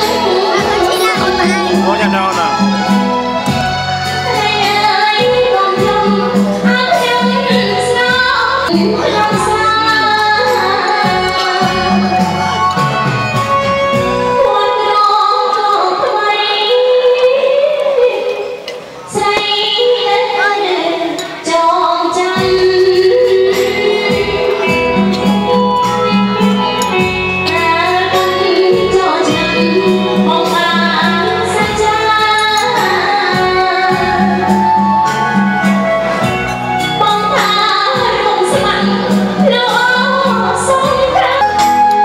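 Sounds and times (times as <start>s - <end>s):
woman singing over a beat: 3.5s - 12.4s, 14.4s - 25.4s, 26.2s - 35.0s, 37.0s - 42.0s.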